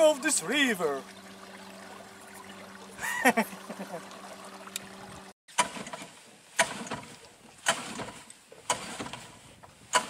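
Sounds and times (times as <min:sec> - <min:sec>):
water splashing and slapping: 0:00.0 - 0:10.0.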